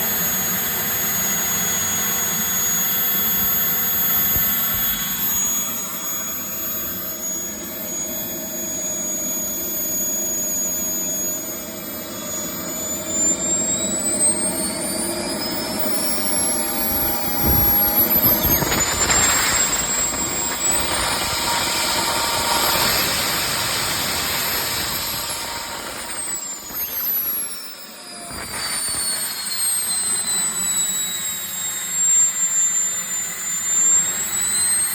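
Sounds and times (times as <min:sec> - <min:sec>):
turbine engine whine: 0:00.0 - 0:34.9.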